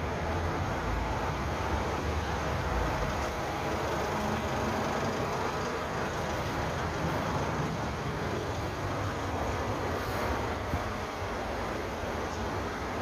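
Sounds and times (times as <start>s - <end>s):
traffic low rumble: 0.0s - 13.0s.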